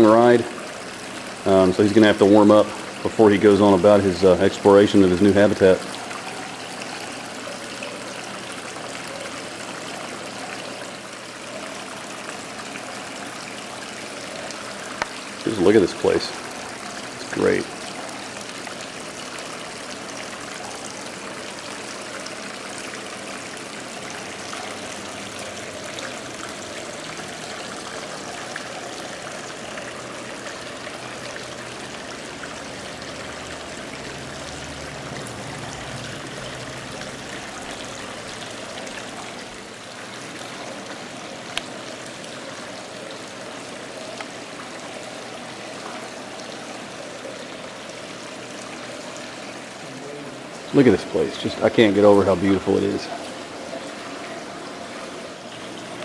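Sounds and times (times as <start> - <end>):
running water: 0.0 - 56.0.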